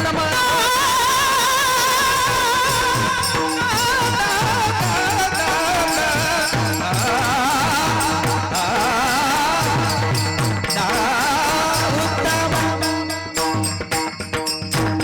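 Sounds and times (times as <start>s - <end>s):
high voice singing: 0.0s - 14.1s
steady drum beat: 2.2s - 15.0s.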